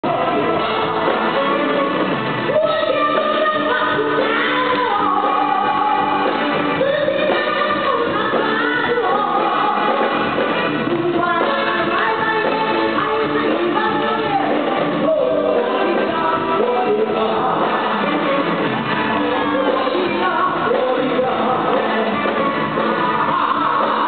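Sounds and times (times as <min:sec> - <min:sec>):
musical accompaniment: 0:00.0 - 0:24.0
woman singing into microphone: 0:00.0 - 0:24.0.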